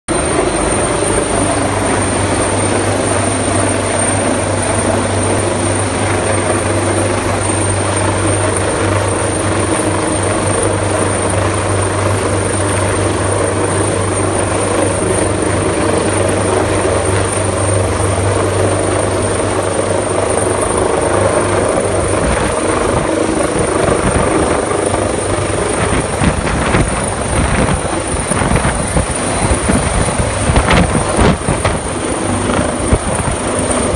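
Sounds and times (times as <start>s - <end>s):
helicopter hovering: 0.1s - 33.9s.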